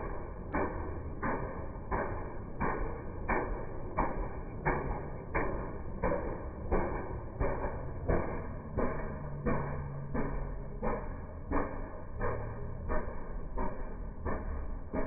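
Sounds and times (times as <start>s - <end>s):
ferris wheel mechanism knocking: 0.0s - 15.0s
steady low rumble: 0.0s - 15.0s.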